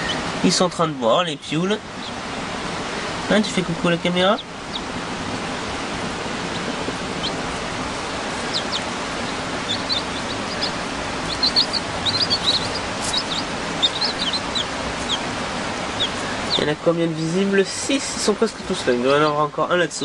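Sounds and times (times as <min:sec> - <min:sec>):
chicks peeping: 0:00.0 - 0:19.8
steady hiss: 0:00.0 - 0:20.0.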